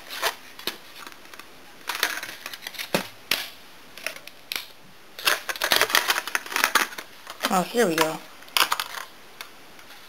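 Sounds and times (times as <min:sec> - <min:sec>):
plastic tray clicking and crackling: 0:00.2 - 0:09.5.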